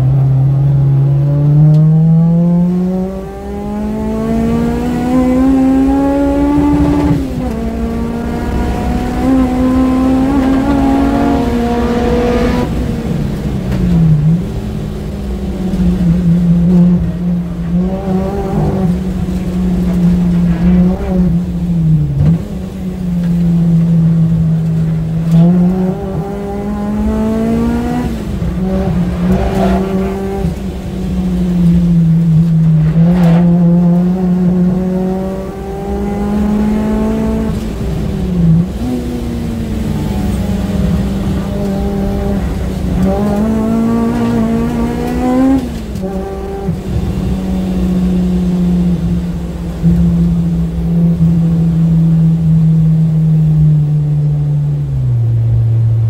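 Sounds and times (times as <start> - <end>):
car engine revving: 0.0 - 56.0
road and tyre noise: 0.0 - 56.0.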